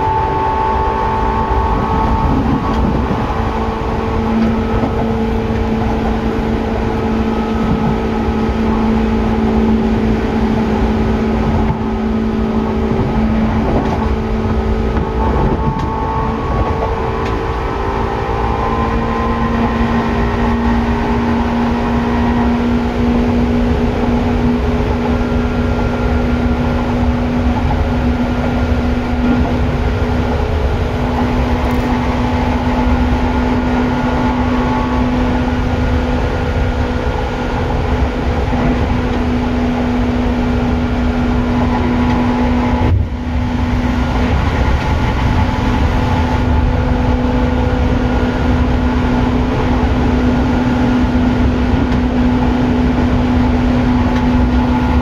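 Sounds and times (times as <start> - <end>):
constant humming tone: 0.0 - 55.0
electric train rumbling: 0.0 - 55.0.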